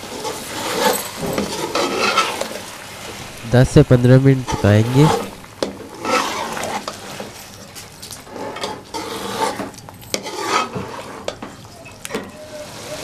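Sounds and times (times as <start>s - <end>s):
metal spatula scraping pot: 0.0s - 2.7s, 4.4s - 13.0s.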